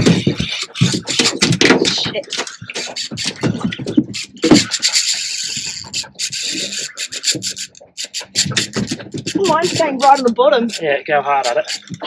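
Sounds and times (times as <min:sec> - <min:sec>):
fishing reel rasping: 0:00.0 - 0:12.0.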